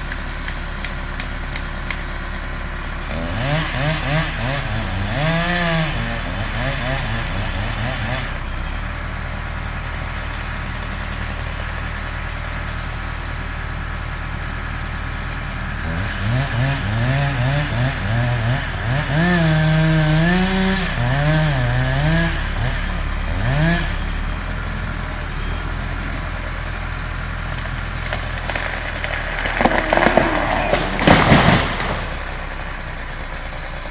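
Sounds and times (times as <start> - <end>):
chainsaw idling and revving: 0.0 - 33.9.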